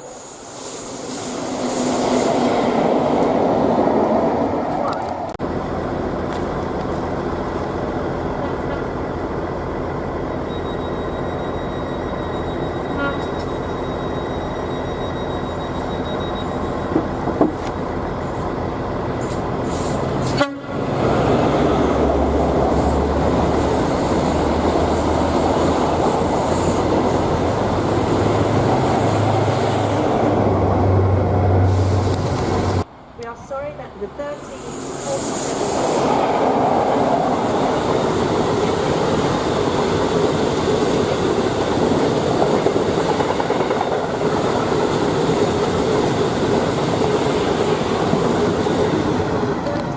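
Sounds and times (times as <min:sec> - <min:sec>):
train rumbling past: 0:00.0 - 0:10.4, 0:12.1 - 0:49.9.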